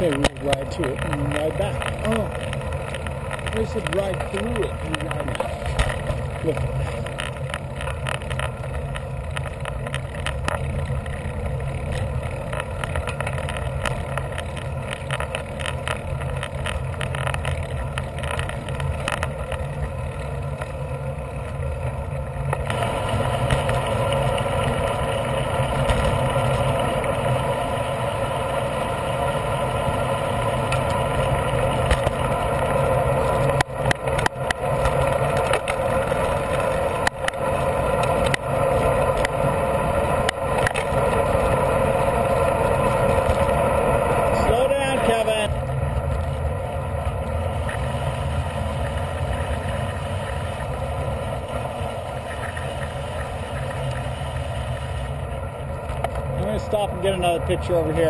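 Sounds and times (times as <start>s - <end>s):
bicycle road noise: 0.0s - 58.0s.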